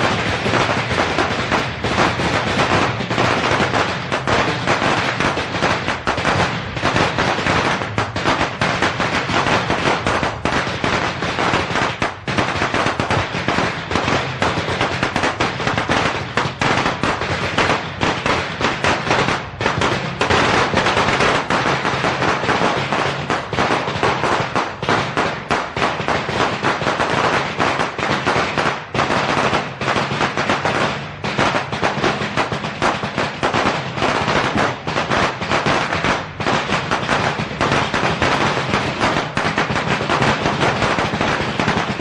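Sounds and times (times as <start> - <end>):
firecrackers crackling: 0.0 - 42.0.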